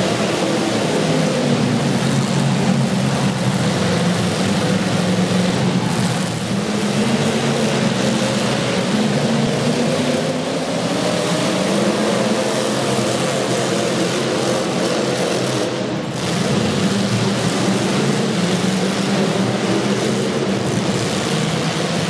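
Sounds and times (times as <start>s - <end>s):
car engines running loudly: 0.0s - 22.0s.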